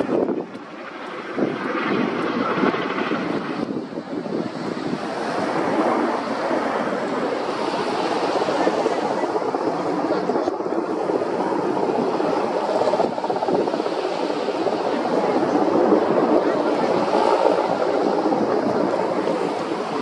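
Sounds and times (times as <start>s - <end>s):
helicopter rotor and engine noise: 0.0s - 20.0s.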